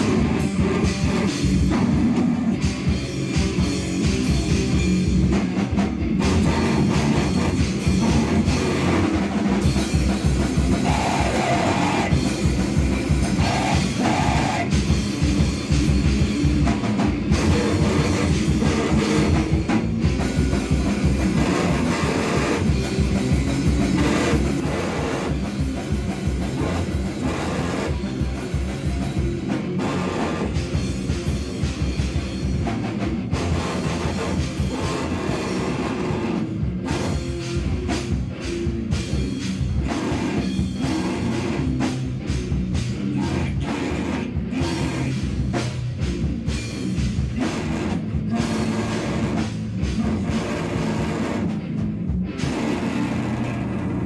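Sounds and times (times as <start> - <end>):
distorted electric guitar: 0.0 - 54.0
fast drumming: 0.0 - 54.0.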